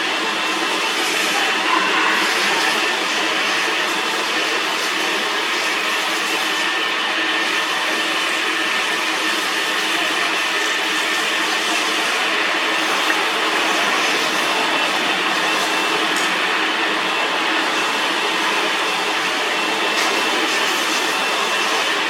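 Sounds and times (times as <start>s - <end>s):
metal lathe running: 0.0s - 22.0s.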